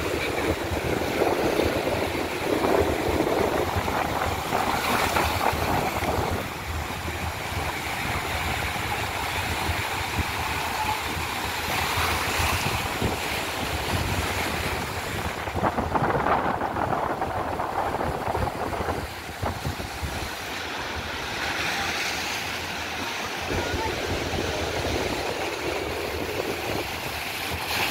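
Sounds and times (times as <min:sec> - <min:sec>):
surf breaking against rocks: 0:00.0 - 0:27.9
wind buffeting microphone: 0:00.0 - 0:27.9.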